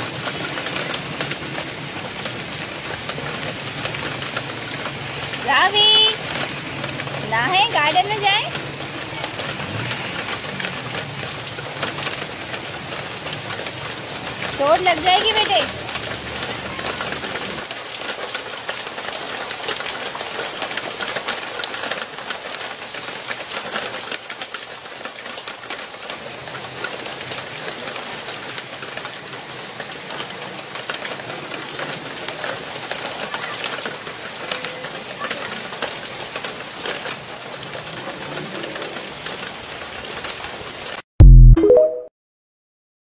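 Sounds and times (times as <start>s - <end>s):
heavy rain on paving and plants: 0.0s - 41.1s.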